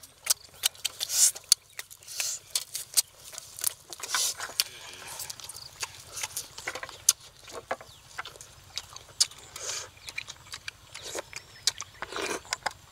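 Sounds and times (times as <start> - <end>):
people chewing and lip smacking: 0.0 - 12.9.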